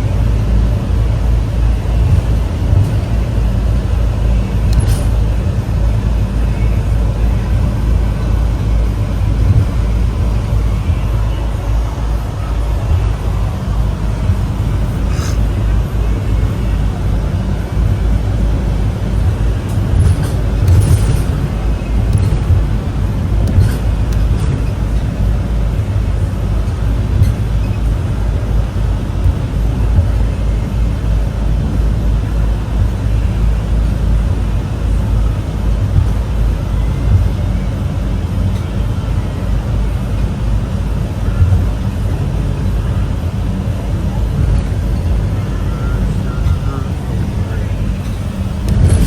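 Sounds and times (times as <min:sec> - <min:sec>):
low engine drone: 0:00.0 - 0:49.0
road noise inside vehicle: 0:00.0 - 0:49.0.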